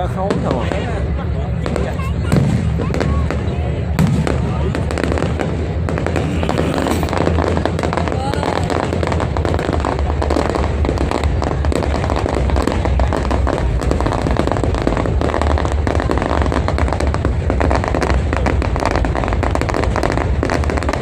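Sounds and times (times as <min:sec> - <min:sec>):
fireworks bangs and crackles: 0:00.0 - 0:21.0
low rumble: 0:00.8 - 0:21.0.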